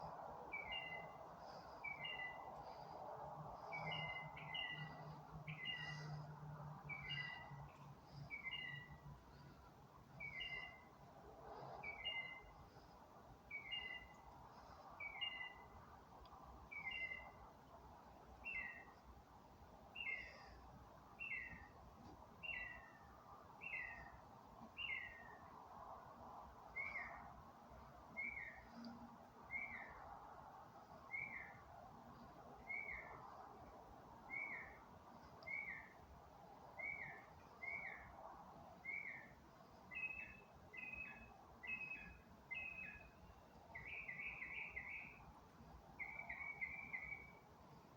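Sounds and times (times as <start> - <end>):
low background hiss: 0.0 - 47.9.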